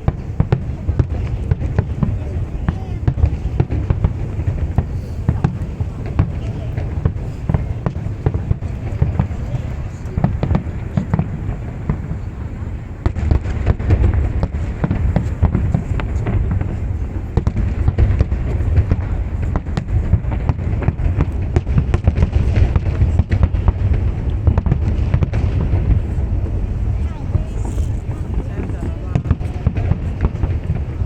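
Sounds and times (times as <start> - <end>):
fireworks bangs and crackles: 0.0 - 31.0
heavy low rumble: 0.0 - 31.0.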